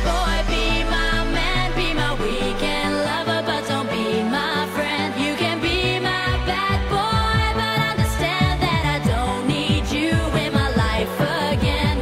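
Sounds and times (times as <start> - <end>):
dance-pop song with vocals: 0.0 - 12.0.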